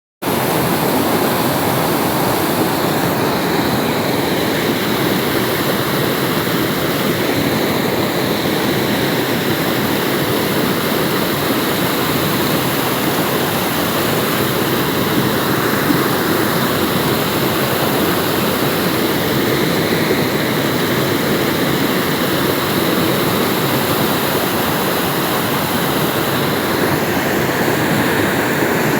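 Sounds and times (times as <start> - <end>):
rushing water: 0.2 - 28.9.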